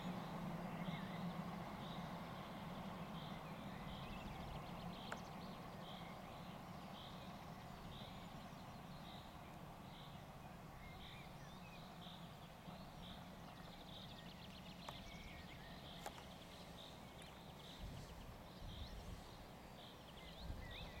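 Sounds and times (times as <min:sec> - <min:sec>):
low background rumble: 0:00.0 - 0:21.0
small bird calls: 0:00.0 - 0:21.0.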